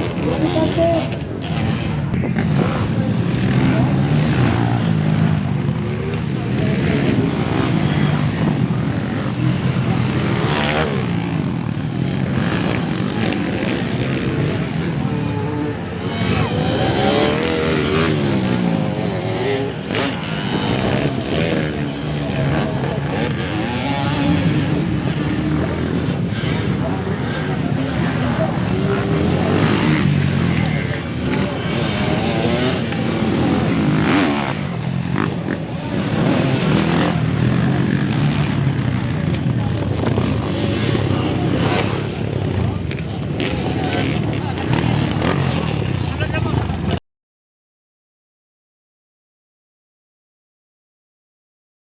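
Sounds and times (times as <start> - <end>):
dirt bike engines revving: 0.0 - 47.0.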